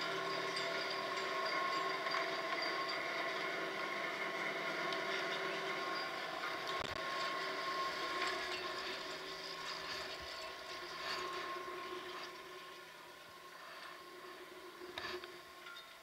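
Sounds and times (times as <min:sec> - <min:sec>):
chairlift machinery humming: 0:00.0 - 0:16.0.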